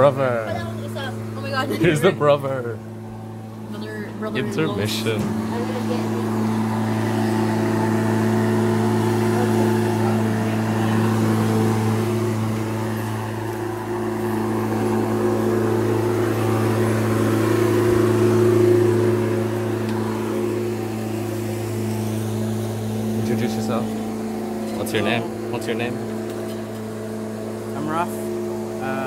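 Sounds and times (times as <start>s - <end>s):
electric lawn mower running: 0.0s - 29.0s.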